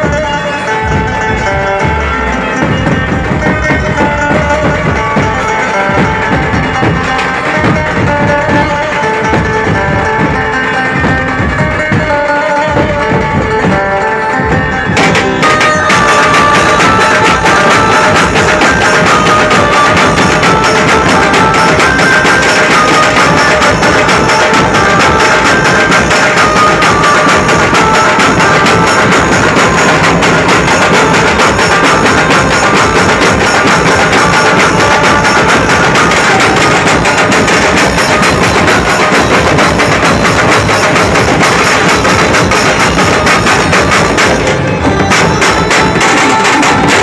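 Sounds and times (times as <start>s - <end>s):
keyboard melody over loudspeakers: 0.0s - 40.2s
driving drum beat: 0.0s - 47.0s.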